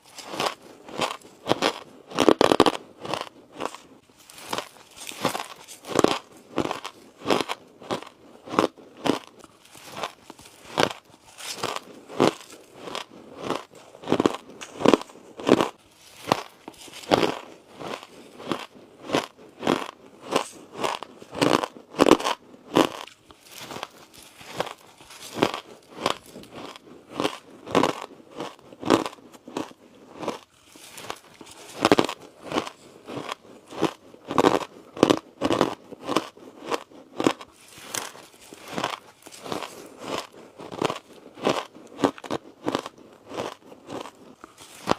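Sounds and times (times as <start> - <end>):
ice crunching being chewed: 0.0 - 44.9.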